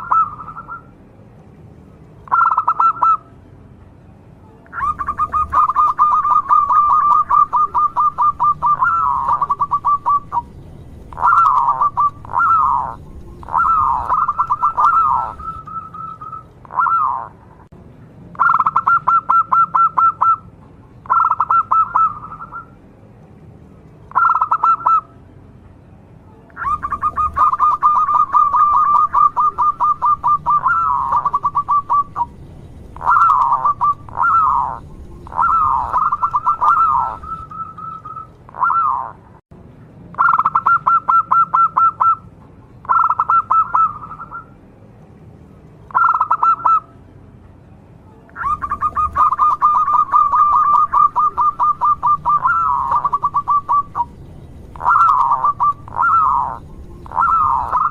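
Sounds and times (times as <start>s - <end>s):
dove cooing song: 0.0s - 0.9s, 2.2s - 3.3s, 4.7s - 17.5s, 18.3s - 22.8s, 24.1s - 25.1s, 26.6s - 39.2s, 40.2s - 42.2s, 42.8s - 44.6s, 45.9s - 46.9s, 48.4s - 57.9s.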